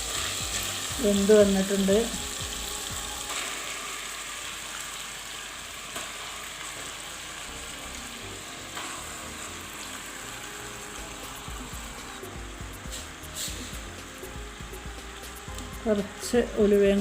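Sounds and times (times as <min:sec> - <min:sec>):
curry sizzling in oil: 0:00.0 - 0:17.0.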